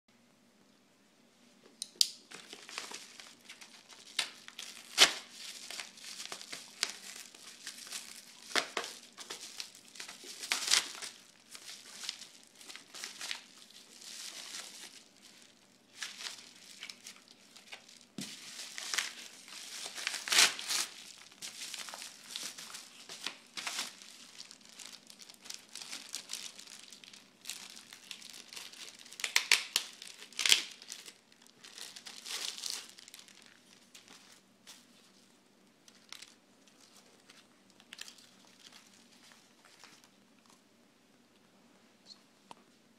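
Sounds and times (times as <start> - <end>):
padded envelope crinkling and ripping: 2.3 - 35.2, 35.8 - 40.1
plastic bag crinkling: 2.3 - 40.6.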